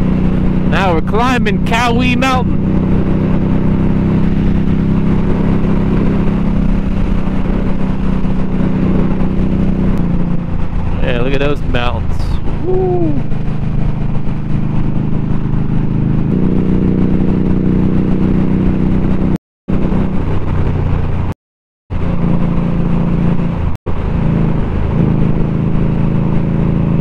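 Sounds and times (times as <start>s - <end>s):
motorcycle engine running: 0.0s - 21.3s, 21.9s - 27.0s.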